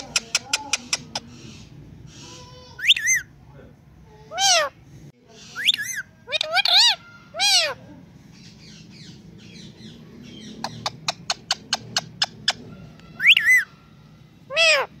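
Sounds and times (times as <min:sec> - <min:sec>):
parakeet squawking: 0:00.0 - 0:03.3, 0:04.3 - 0:07.8, 0:08.6 - 0:13.7, 0:14.5 - 0:15.0.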